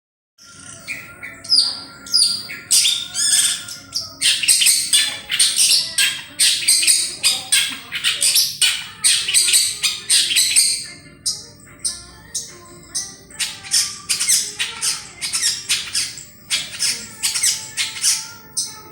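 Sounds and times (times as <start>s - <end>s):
shrike harsh chattering song: 0.4s - 18.9s.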